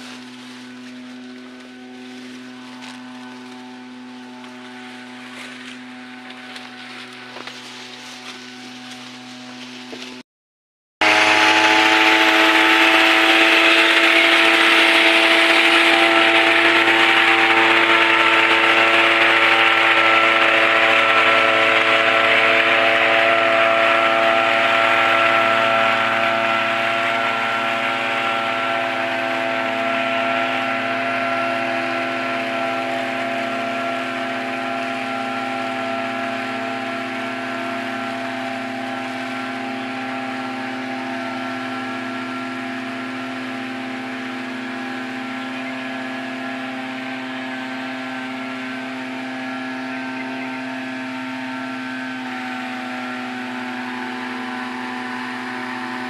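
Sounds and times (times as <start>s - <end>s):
harvester engine droning: 0.0s - 10.2s, 11.0s - 56.0s.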